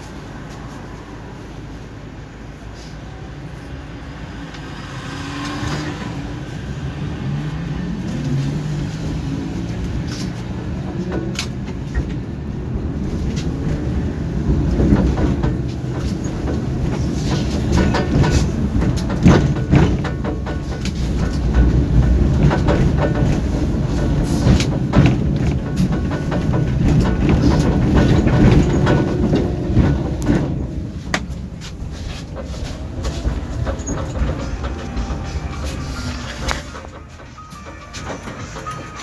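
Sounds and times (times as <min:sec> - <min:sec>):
tram running on rails: 0:00.0 - 0:39.0
wheels clicking on track: 0:00.0 - 0:39.0.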